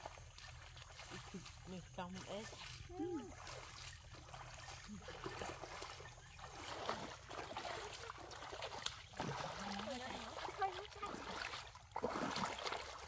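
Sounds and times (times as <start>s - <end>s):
wading through muddy water: 0.0s - 13.0s.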